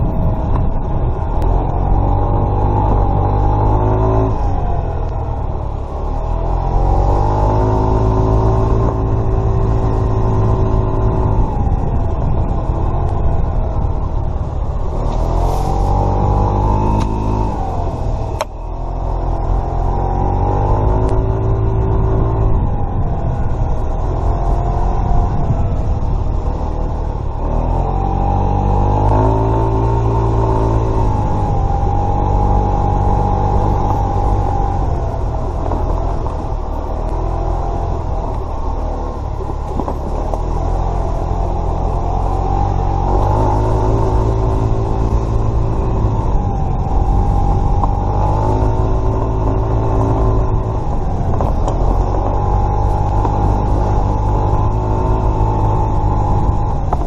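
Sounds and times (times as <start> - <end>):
moped engine revving: 1.5 - 57.0.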